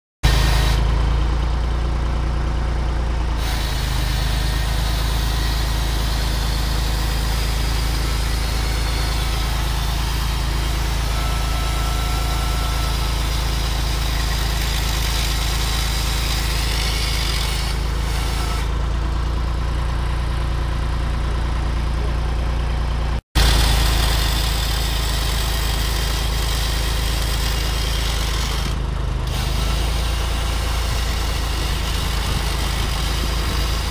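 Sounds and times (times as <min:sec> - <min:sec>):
tractor engine idling: 0:00.2 - 0:33.9.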